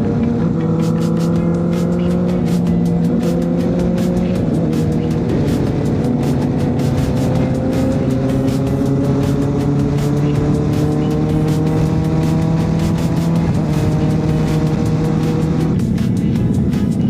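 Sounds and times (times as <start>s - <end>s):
motorcycle engine under throttle: 0.0s - 15.9s.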